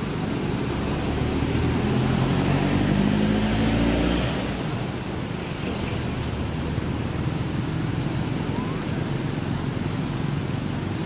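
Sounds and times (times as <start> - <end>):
passing vehicle engine hum: 0.0 - 11.0
steady outdoor hiss: 0.0 - 11.0.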